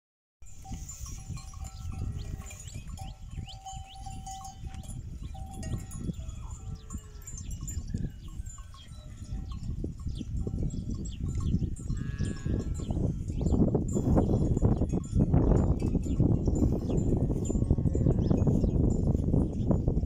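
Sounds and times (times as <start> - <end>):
cowbells ringing: 0.4 - 20.0.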